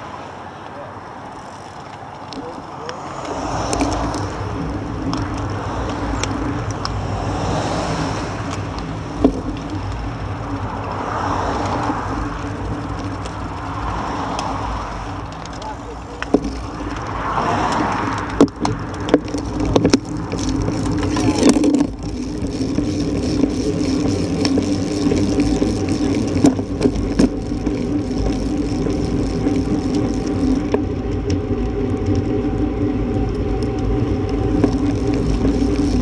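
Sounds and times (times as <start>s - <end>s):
road traffic hum: 0.0s - 36.0s.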